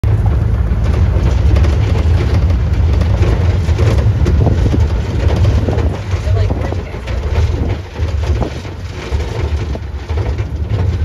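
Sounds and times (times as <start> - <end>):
vehicle engine and road noise: 0.0 - 11.0
vehicle rattles and knocks: 0.0 - 11.0.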